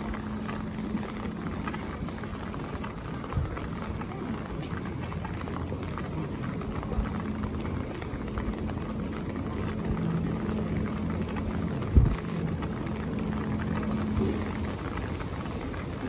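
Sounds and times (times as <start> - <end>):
low hum: 0.0 - 16.0
rain pattering on umbrella: 0.0 - 16.0.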